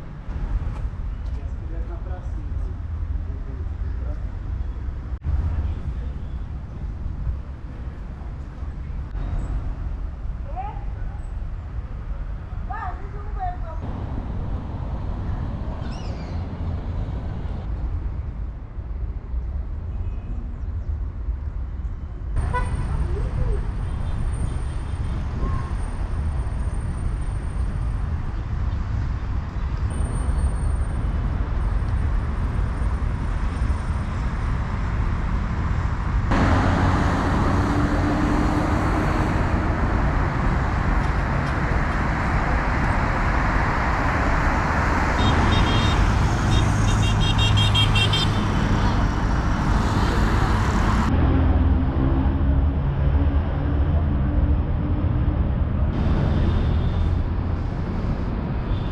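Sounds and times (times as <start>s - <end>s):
city traffic rumble: 0.0s - 58.9s.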